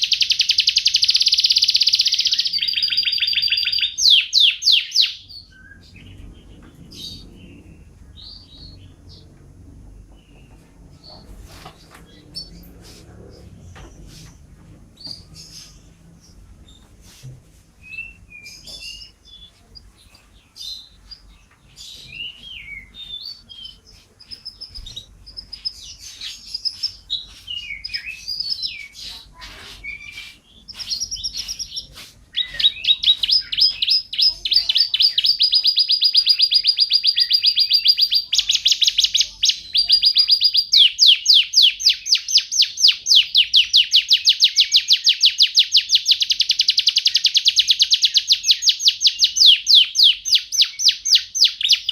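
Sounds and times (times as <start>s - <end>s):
canary singing: 0.0s - 16.9s, 17.8s - 51.9s.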